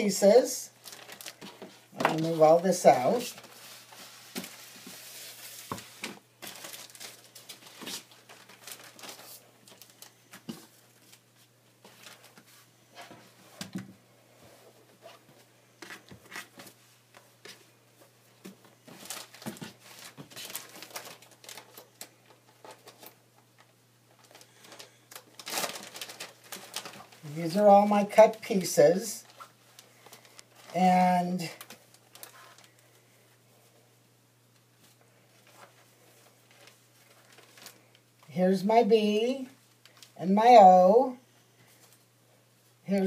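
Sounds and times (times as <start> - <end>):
plastic bag and paper rustling: 0.2 - 33.8, 34.8 - 38.4.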